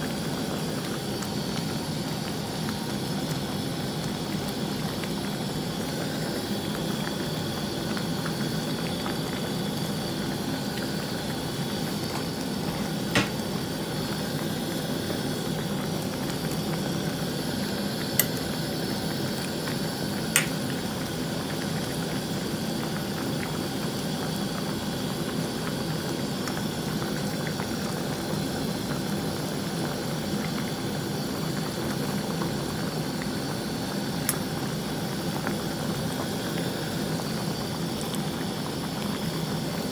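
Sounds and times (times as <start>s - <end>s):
soup pot boiling: 0.0s - 39.9s.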